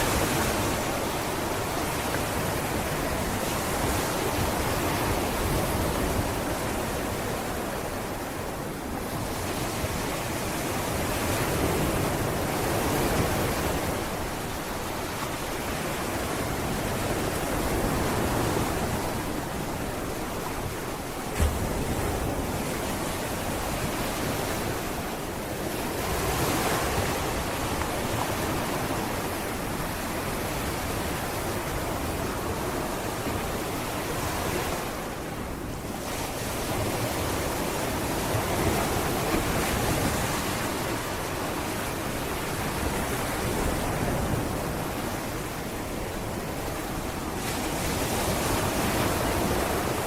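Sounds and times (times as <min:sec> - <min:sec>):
sea waves washing on beach: 0:00.0 - 0:50.0.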